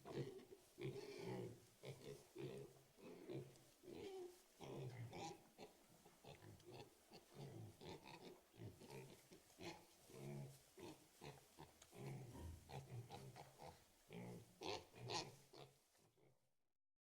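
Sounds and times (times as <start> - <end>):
pigs grunting: 0.0 - 15.7.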